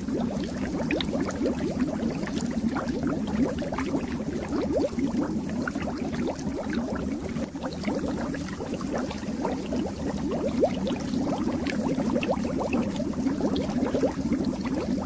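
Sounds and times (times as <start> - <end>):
aquarium water bubbling: 0.0 - 15.0.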